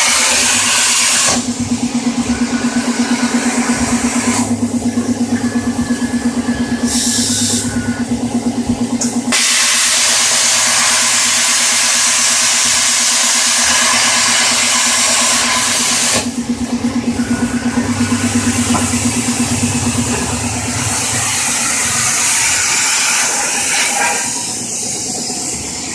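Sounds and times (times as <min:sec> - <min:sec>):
plasma torch hissing: 0:00.0 - 0:04.6, 0:06.6 - 0:07.8, 0:09.0 - 0:25.9
pulsing machine hum: 0:00.0 - 0:25.9.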